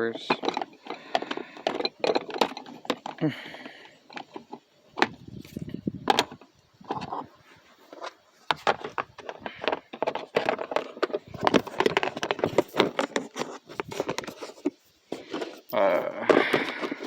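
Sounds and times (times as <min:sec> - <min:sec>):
hand tools clicking and rattling: 0:00.0 - 0:07.3, 0:07.9 - 0:17.0.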